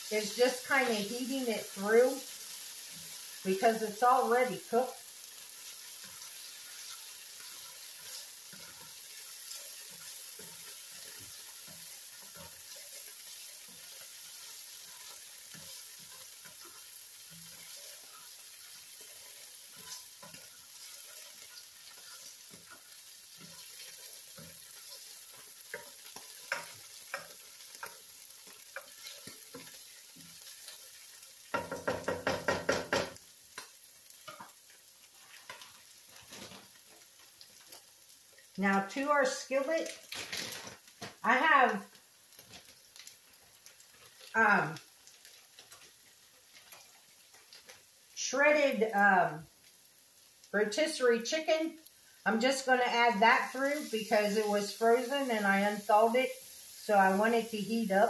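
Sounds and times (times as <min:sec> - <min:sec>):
vegetables sizzling in a skillet: 0:00.0 - 0:58.0.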